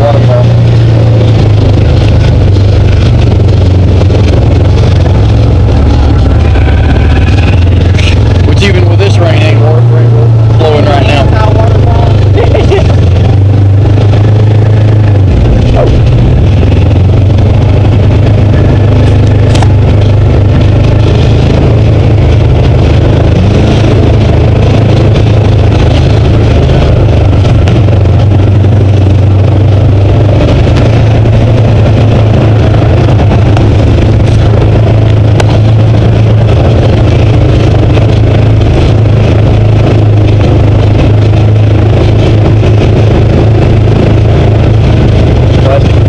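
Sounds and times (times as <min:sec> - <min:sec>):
utility vehicle engine running: 0:00.0 - 0:46.0.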